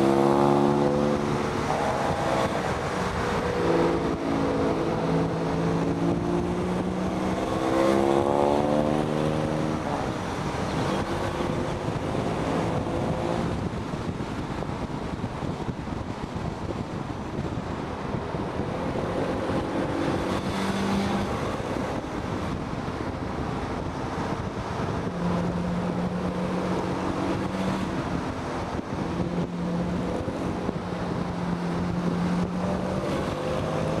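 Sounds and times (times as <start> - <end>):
car engine hum: 0.0 - 34.0
wind rushing over microphone: 0.0 - 34.0.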